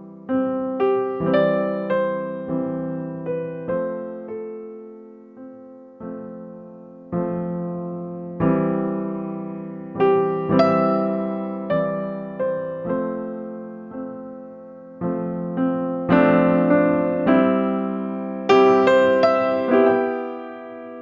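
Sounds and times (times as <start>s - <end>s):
slow electric piano chords: 0.0s - 21.0s.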